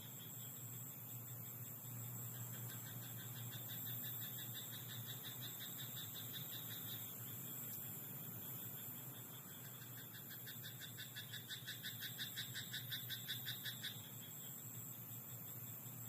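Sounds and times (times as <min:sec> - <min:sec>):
chorus of frogs croaking: 0:00.0 - 0:16.0.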